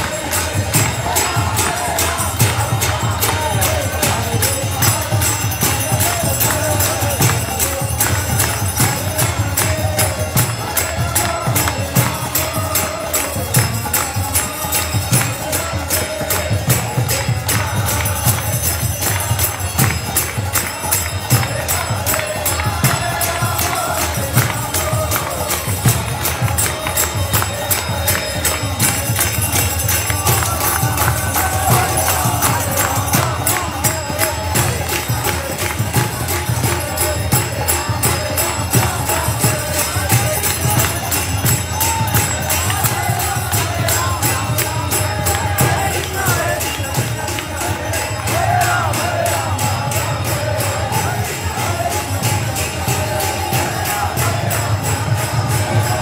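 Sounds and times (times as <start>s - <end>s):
crowd clapping: 0.0s - 56.0s
group singing: 0.0s - 56.0s
two-headed drums: 0.0s - 56.0s.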